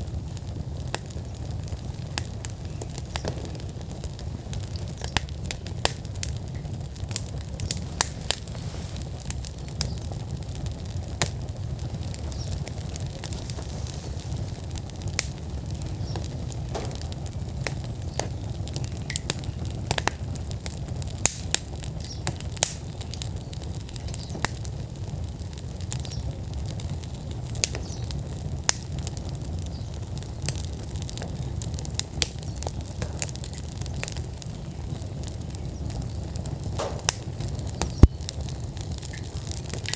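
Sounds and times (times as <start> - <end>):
logs crackling and popping: 0.0 - 39.9
rumble of flames: 0.0 - 39.9.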